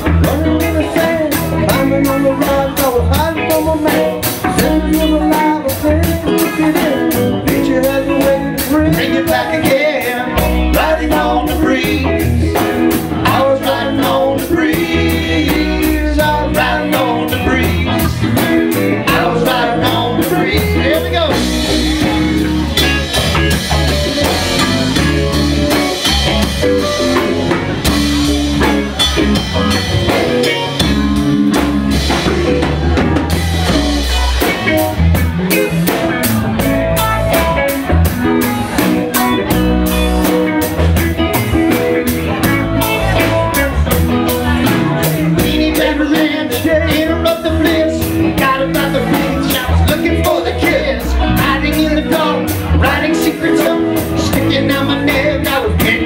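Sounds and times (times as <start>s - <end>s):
live rock band: 0.0s - 56.0s.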